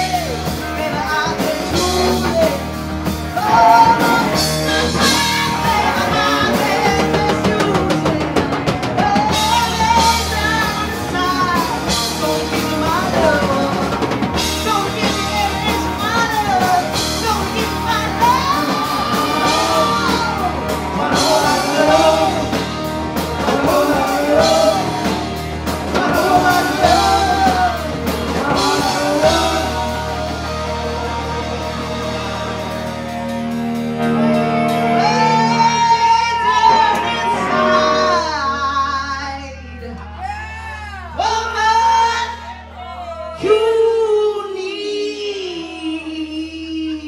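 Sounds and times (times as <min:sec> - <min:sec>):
woman singing: 0:00.0 - 0:02.7, 0:03.3 - 0:30.7, 0:34.7 - 0:40.0, 0:43.4 - 0:47.0
live rock band playing: 0:00.0 - 0:47.0.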